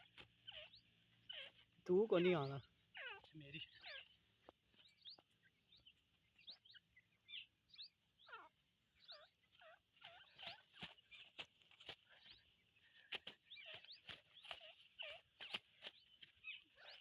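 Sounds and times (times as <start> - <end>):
birds chirping and squeaking: 0.0 - 17.0.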